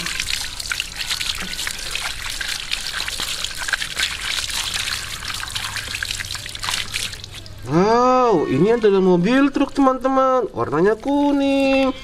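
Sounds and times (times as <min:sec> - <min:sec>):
water splashing from a hose: 0:00.0 - 0:12.0.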